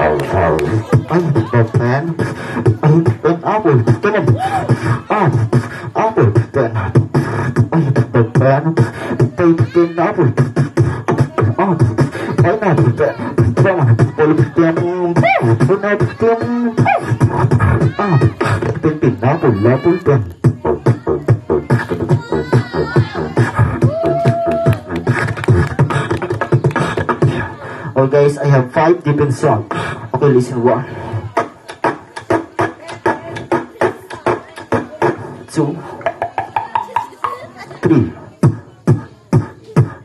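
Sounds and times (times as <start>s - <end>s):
beatboxing through microphone: 0.0s - 40.0s.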